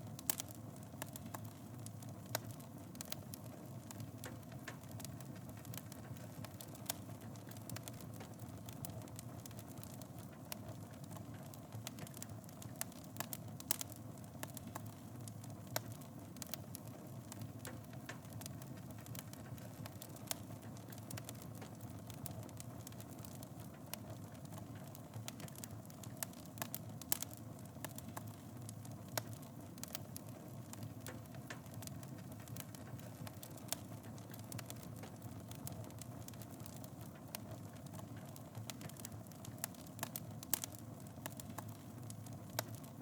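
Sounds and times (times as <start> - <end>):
fire crackling and popping: 0.0 - 43.0
fire rumbling: 0.1 - 43.0.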